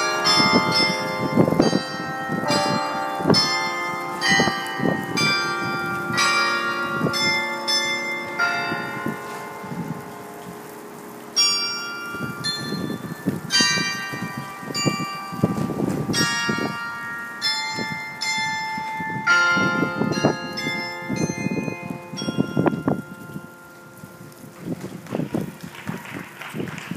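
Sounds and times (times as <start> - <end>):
carillon bells playing melody: 0.0 - 24.6.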